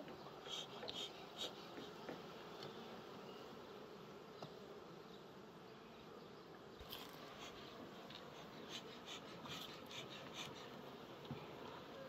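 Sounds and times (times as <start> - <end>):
bees humming: 0.0 - 12.0.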